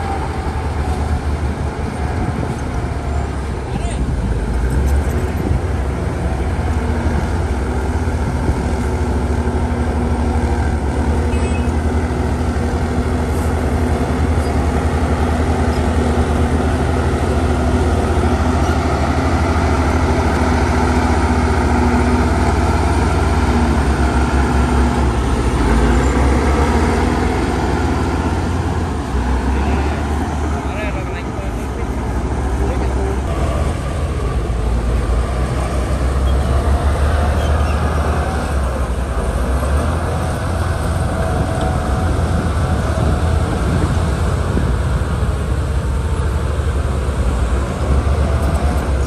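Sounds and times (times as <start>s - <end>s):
bulldozer diesel engine running: 0.0s - 49.0s.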